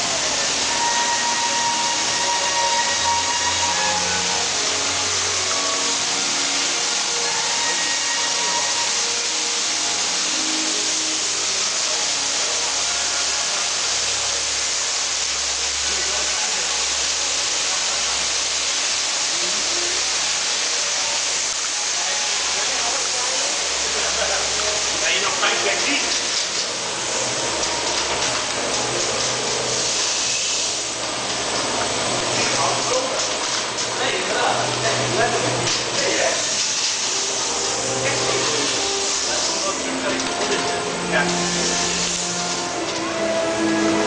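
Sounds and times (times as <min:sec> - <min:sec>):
steady hissing rush: 0:00.0 - 0:44.0.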